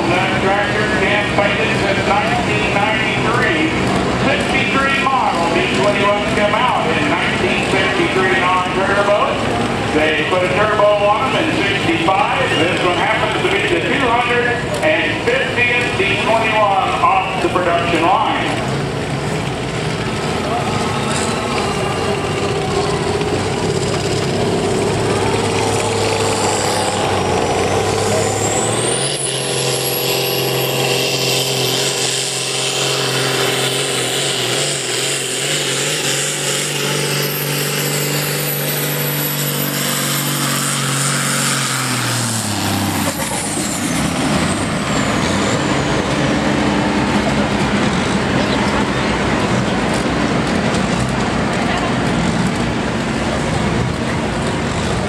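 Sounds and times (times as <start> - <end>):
tractor engine running hard: 0.0 - 55.0.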